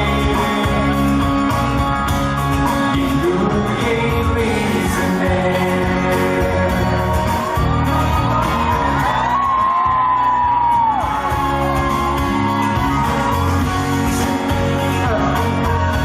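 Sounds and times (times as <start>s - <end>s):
live pop band music: 0.0s - 16.0s.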